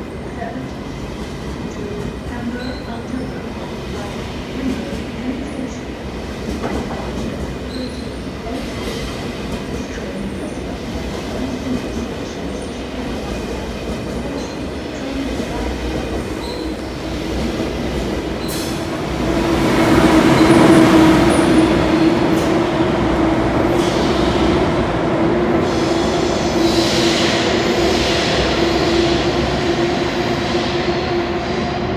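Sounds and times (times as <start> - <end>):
train running on track: 0.0 - 31.9.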